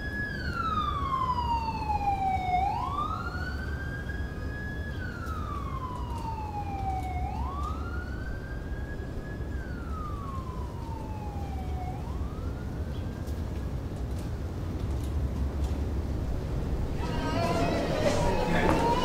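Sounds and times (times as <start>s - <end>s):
emergency vehicle siren wailing: 0.0s - 14.0s, 16.5s - 19.0s.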